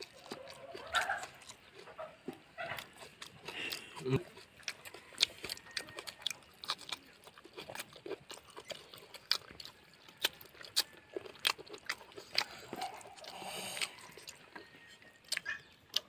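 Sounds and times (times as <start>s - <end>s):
man chewing with crunches: 0.0s - 16.0s.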